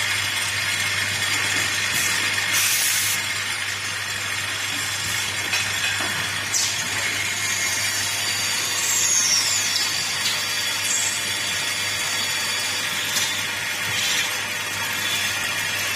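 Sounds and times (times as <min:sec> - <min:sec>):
high machine whine: 0:00.0 - 0:15.9
milling machine whirring: 0:00.0 - 0:15.9.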